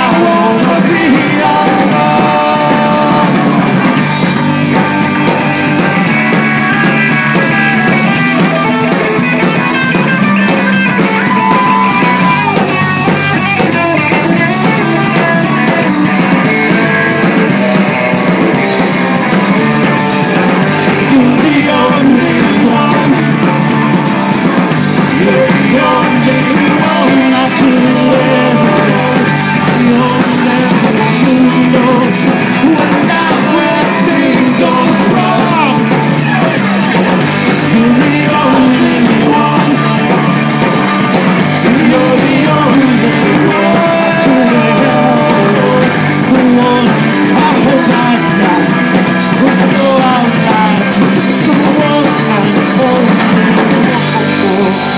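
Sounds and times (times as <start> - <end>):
drum kit: 0.0 - 54.9
guitar: 0.0 - 54.9
live rock band: 0.0 - 54.9.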